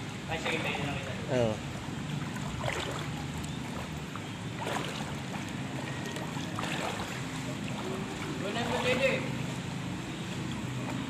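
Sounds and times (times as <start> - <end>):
person wading through water: 1.7 - 11.0.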